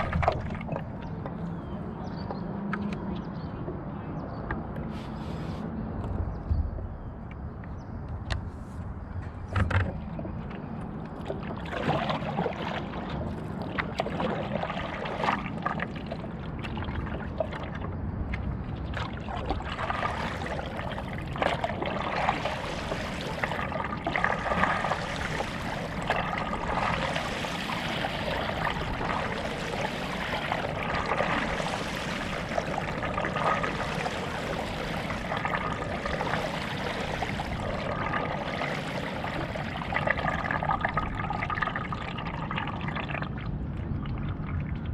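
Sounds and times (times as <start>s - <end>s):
water splashing: 0.0s - 1.9s, 9.5s - 44.9s
water trickling off paddle: 0.0s - 3.0s, 4.5s - 7.8s, 8.4s - 44.9s
paddle pulling through water: 0.0s - 7.6s, 8.3s - 44.9s.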